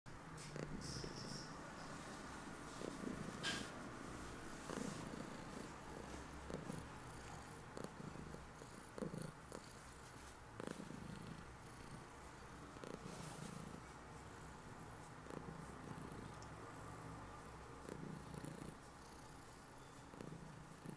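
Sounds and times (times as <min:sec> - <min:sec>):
cat purring: 0:00.4 - 0:20.9.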